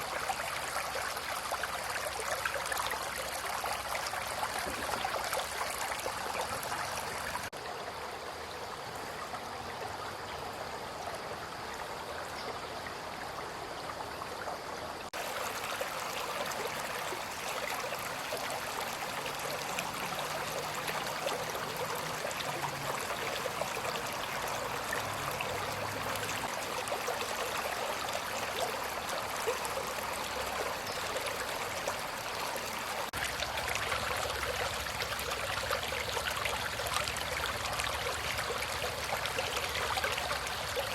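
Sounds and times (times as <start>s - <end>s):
brook water trickling: 0.0s - 40.9s.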